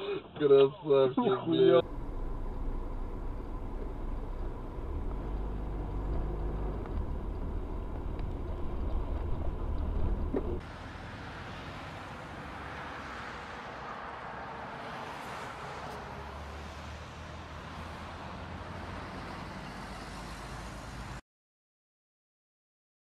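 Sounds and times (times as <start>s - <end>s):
car in slow city traffic: 0.0s - 21.2s
car engine and tyres rumbling: 1.3s - 21.2s.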